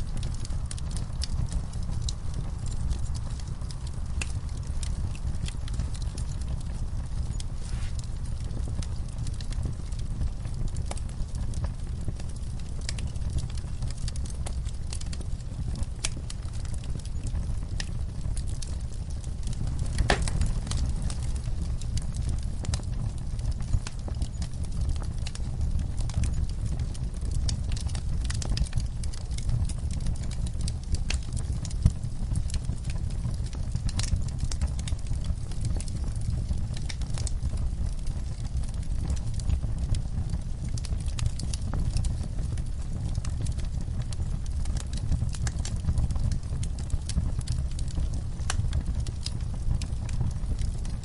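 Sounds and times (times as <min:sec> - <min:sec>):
fire crackling and popping: 0:00.0 - 0:51.0
low rumble of fire: 0:00.0 - 0:51.0.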